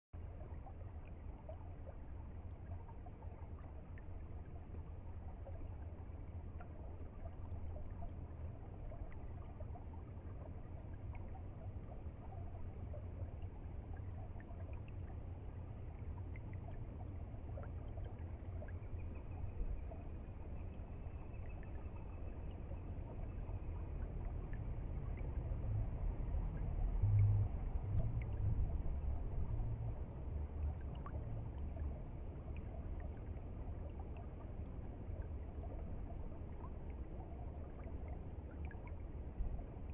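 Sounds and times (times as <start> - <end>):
small splashes and drips: 0.2 - 39.9.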